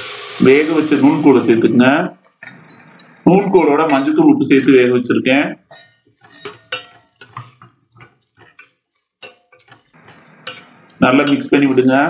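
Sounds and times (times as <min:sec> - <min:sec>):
metal ladle scraping metal pot: 0:01.8 - 0:12.0.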